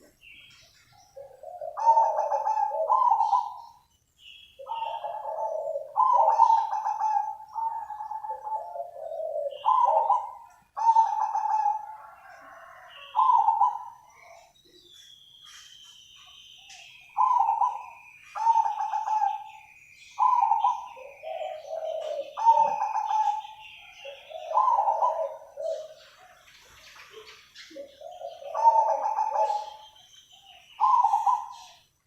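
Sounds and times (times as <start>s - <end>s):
dove cooing: 0.0s - 3.8s, 4.6s - 14.6s, 16.6s - 31.8s.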